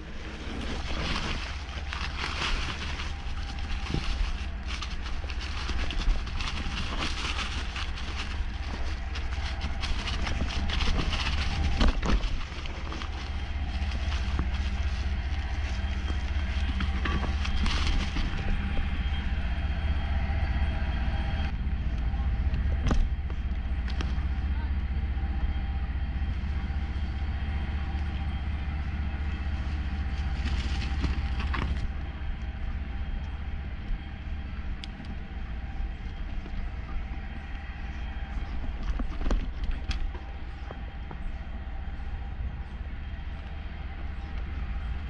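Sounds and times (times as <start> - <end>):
bike rattling: 0.0 - 20.5, 25.4 - 45.0
bike tyre noise: 0.0 - 45.0.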